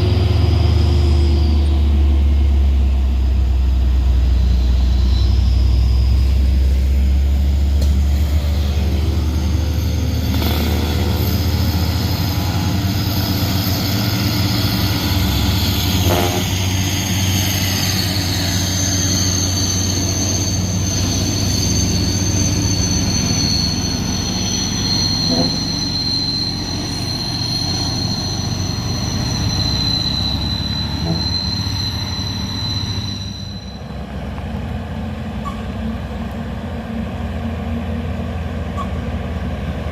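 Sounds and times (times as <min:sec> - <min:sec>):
truck diesel engine labouring: 0:00.0 - 0:39.9.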